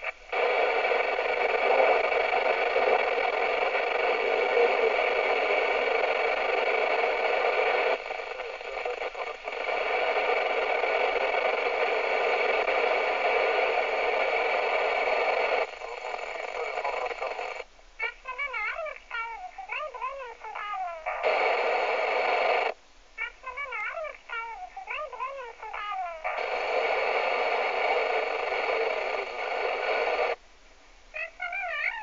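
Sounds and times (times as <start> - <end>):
radio static hiss: 0.0 - 32.0.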